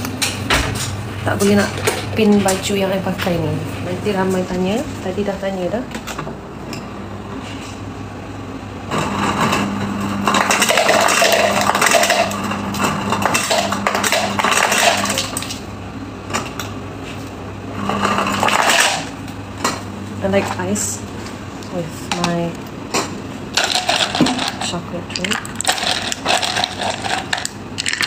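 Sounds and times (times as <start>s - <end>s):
dispenser motor humming: 0.0s - 28.0s.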